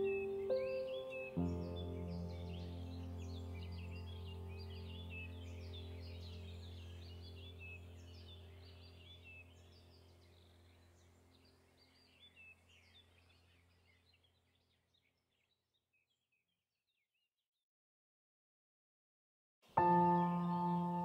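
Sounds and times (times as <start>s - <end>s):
faint birds chirping: 0.0s - 17.2s, 19.7s - 21.0s.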